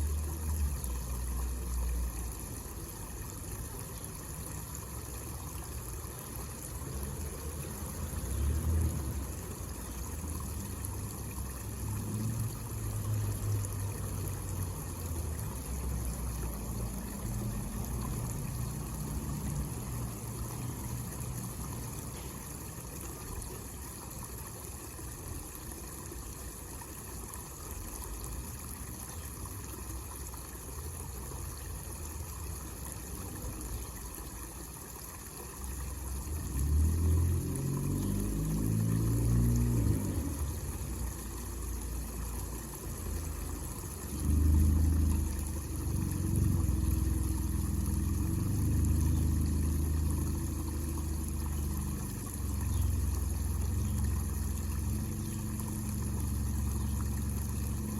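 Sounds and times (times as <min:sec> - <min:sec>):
water trickling into basin: 0:00.0 - 0:57.9.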